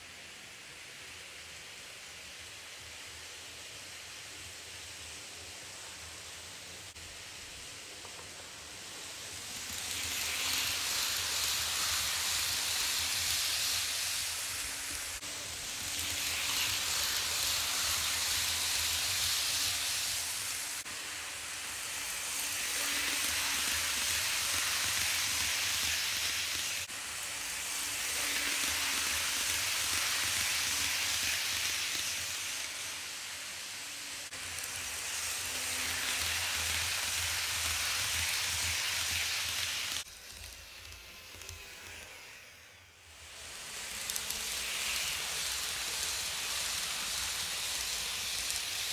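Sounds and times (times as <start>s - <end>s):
model train wheels rolling: 0.0s - 48.9s.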